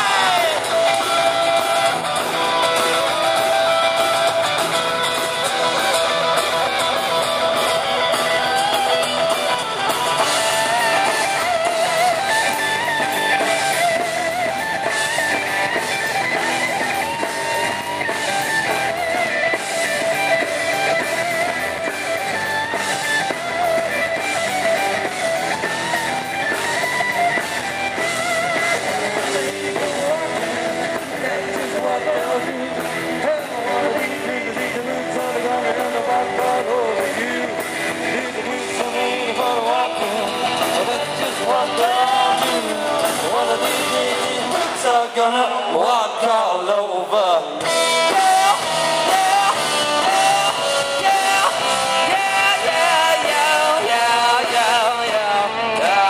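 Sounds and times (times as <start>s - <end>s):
electric guitars playing: 0.0s - 45.6s, 47.6s - 56.0s
steady rock beat: 0.0s - 46.0s, 47.5s - 56.0s.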